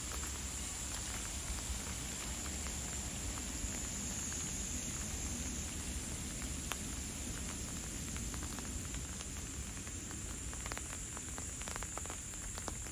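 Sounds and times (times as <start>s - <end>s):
rain hissing: 0.0s - 12.9s.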